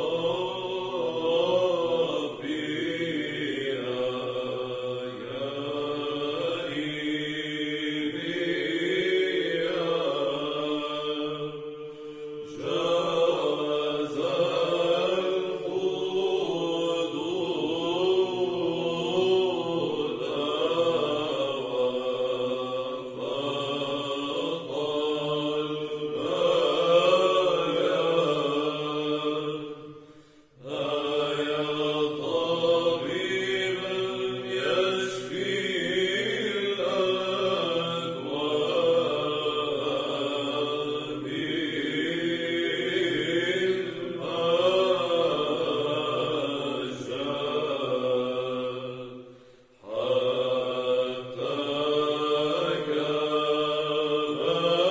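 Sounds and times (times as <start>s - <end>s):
monks chanting: 0.0s - 54.9s.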